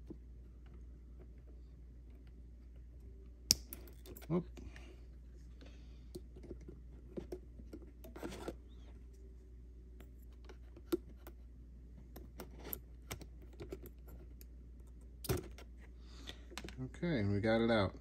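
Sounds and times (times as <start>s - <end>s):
low hum: 0.0s - 16.8s.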